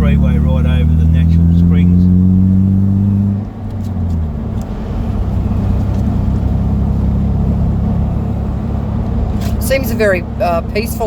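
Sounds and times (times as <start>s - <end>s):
car engine hum: 0.0s - 11.0s
tyres rumbling on road: 0.0s - 11.0s.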